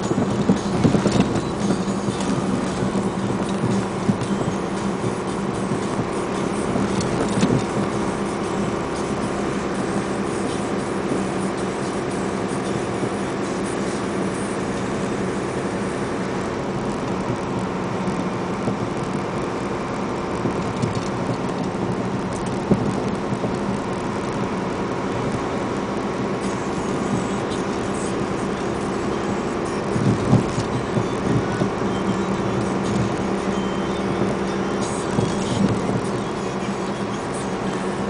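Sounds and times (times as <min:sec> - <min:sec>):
engine hum: 0:00.0 - 0:38.0
tyre and road noise: 0:00.0 - 0:38.0.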